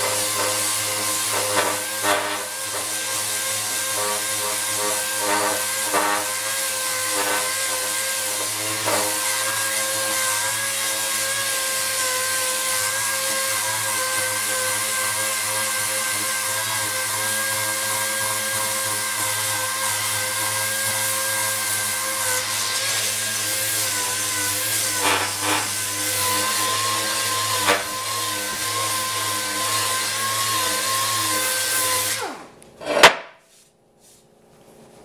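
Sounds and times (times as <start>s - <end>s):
sander whining: 0.0s - 32.7s.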